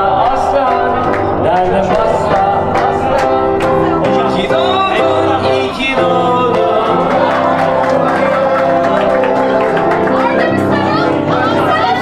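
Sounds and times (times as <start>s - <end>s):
man singing into microphone: 0.0s - 9.8s
pop music accompaniment with beat: 0.0s - 12.0s.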